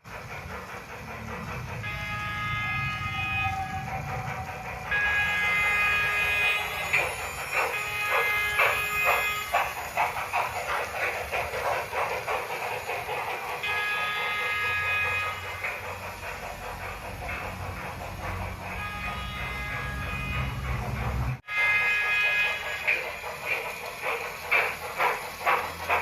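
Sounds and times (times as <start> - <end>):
steam locomotive exhaust chuffs: 0.0 - 26.0.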